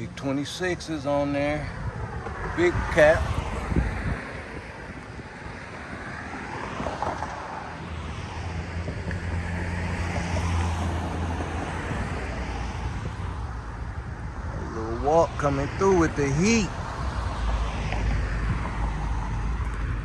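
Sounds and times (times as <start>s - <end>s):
tyre and road noise: 0.0s - 20.0s.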